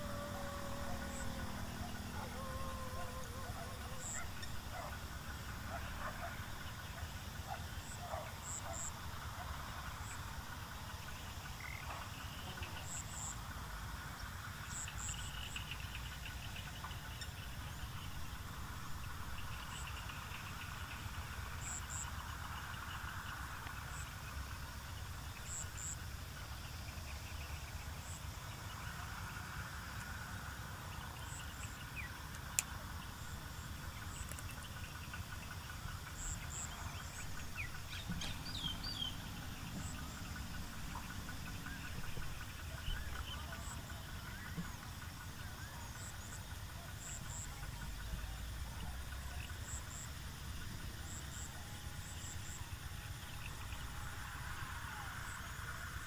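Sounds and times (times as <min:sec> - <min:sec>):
insects trilling: 0:00.0 - 0:56.0
low steady rumble: 0:00.0 - 0:56.0.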